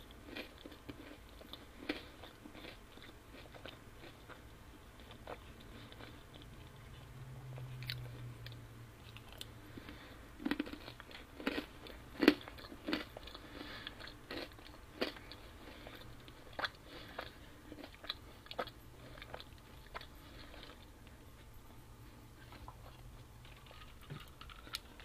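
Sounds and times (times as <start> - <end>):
chewing and biting pizza: 0.0 - 21.6.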